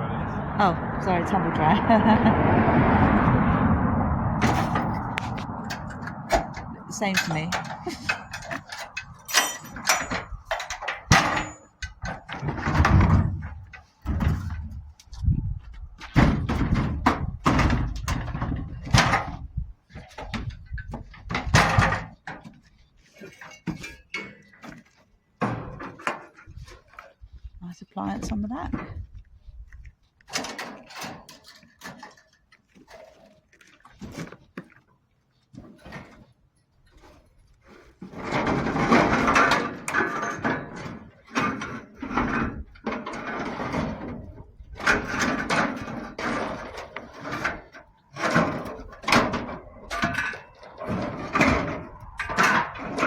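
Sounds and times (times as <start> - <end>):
scrap metal clattering and banging: 1.6 - 29.2, 30.2 - 34.8, 35.5 - 53.0.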